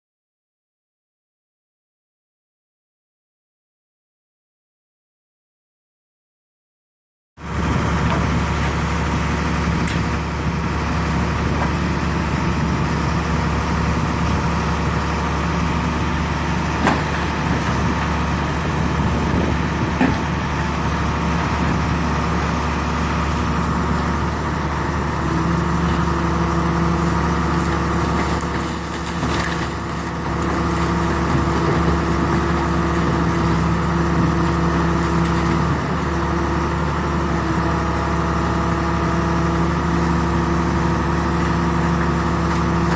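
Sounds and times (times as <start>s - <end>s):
engine idling: 7.4s - 42.9s.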